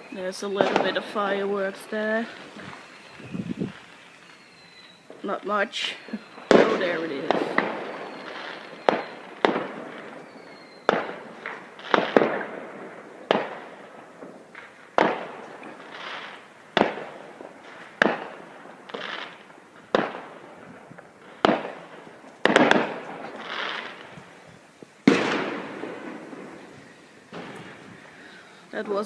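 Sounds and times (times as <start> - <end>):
fireworks bangs echoing: 0.0 - 29.0.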